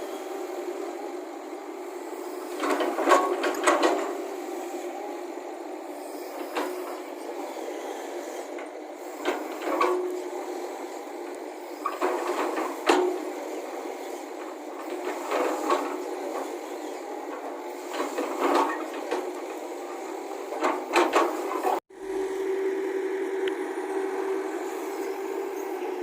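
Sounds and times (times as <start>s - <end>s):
excavator engine drone: 0.0s - 26.0s.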